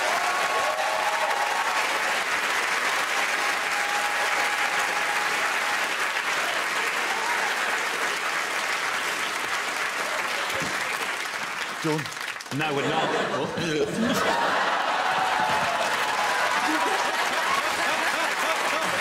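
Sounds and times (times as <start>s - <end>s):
audience applauding: 0.0s - 13.4s, 14.2s - 19.0s.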